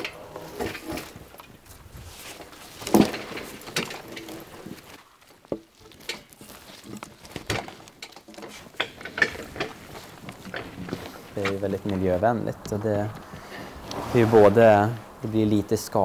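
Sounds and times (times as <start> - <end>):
logs knocking and scraping: 0.0 - 15.2.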